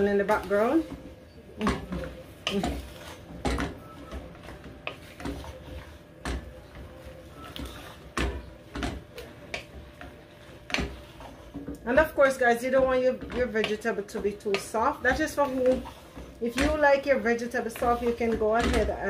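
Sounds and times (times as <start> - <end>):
wooden spoon stirring in a pot: 0.0 - 19.0.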